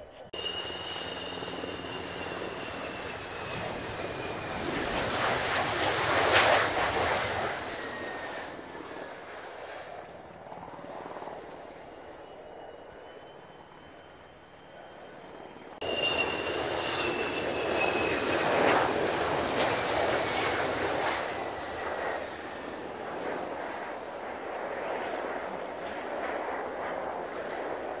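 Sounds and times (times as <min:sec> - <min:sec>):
high jet whine: 0:00.0 - 0:28.0
jet engines rolling past: 0:00.0 - 0:28.0.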